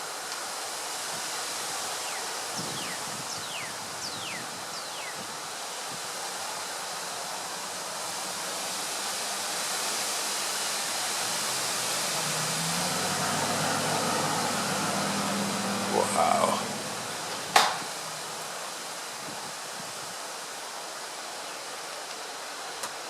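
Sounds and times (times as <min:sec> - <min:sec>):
wind rushing through trees: 0:00.0 - 0:23.0.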